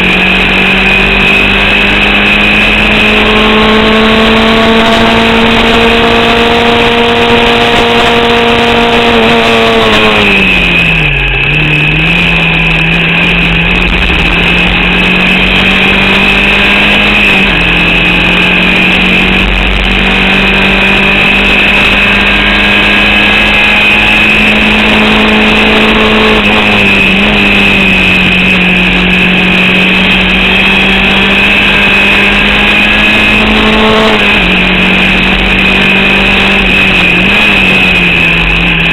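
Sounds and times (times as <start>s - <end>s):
high whine: 0.0s - 38.9s
racing car engine revving high: 0.0s - 38.9s.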